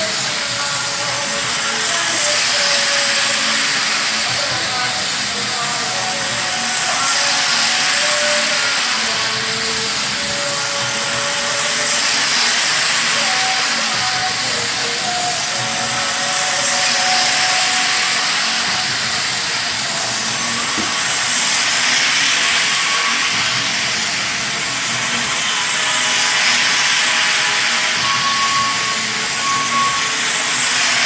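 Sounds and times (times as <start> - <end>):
model train whirring on track: 0.0 - 31.0.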